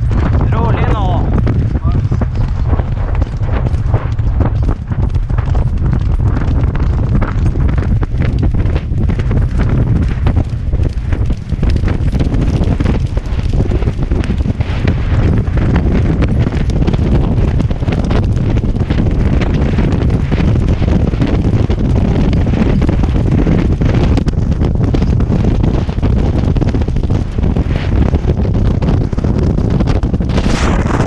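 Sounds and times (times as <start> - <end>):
hoofbeats on turf: 0.0 - 31.0
wind buffeting microphone: 0.0 - 31.0.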